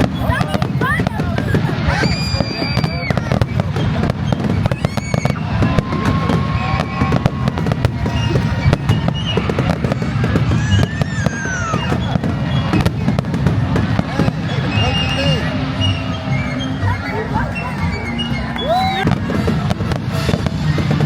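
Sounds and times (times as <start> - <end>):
fireworks booming: 0.0 - 16.9, 19.0 - 21.0
fireworks crackling: 0.0 - 21.0.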